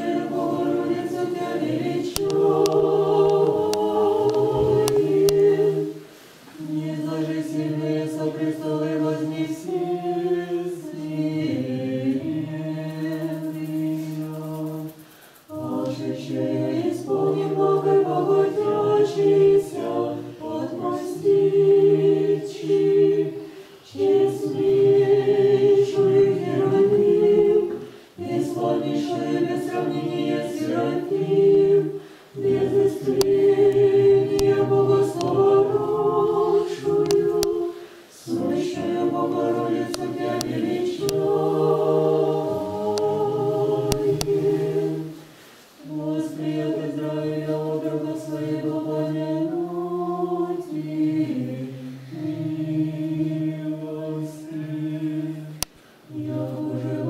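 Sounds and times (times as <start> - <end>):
mixed choir singing chant: 0.0 - 57.0.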